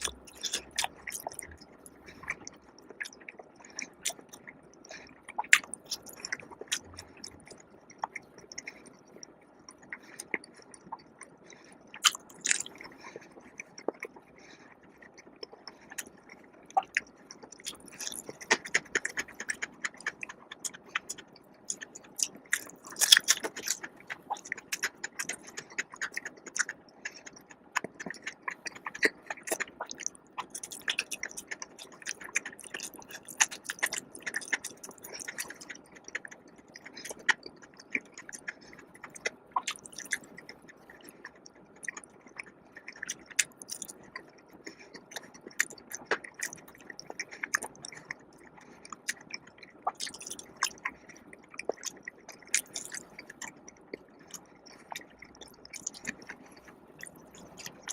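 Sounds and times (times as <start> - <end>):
wet mouth clicks: 0.0 - 11.4, 12.0 - 14.3, 16.8 - 57.9
chewing and biting food: 0.0 - 57.9.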